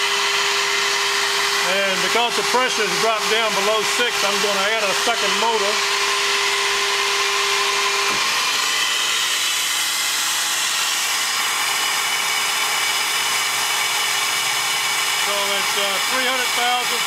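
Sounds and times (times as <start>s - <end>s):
motor spinning up: 0.0s - 17.0s
vacuum motors whining: 0.0s - 17.0s.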